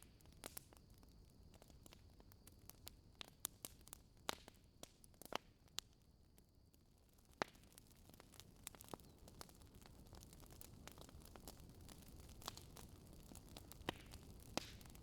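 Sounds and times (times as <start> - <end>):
wood fire crackling: 0.0 - 6.0, 6.7 - 15.0.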